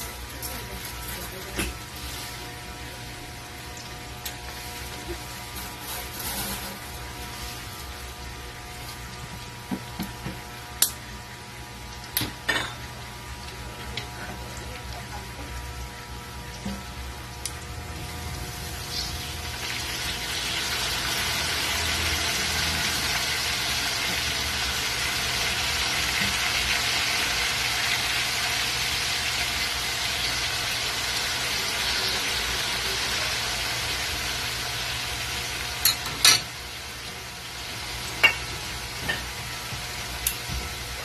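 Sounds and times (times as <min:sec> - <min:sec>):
meat sizzling in a wok: 0:00.0 - 0:41.0.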